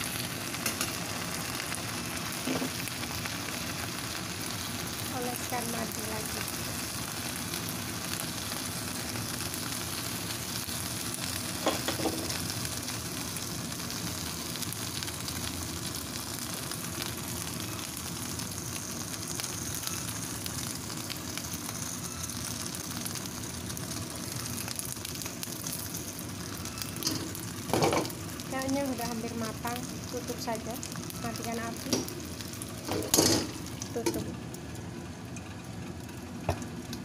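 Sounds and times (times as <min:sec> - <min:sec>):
chicken sizzling in oil: 0:00.0 - 0:37.0.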